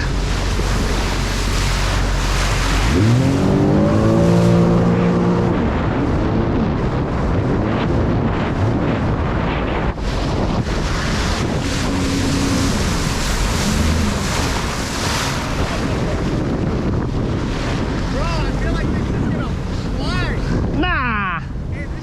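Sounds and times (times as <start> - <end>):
jet ski engine: 0.0 - 22.0
water rushing: 0.0 - 22.0
wind noise on microphone: 0.0 - 22.0.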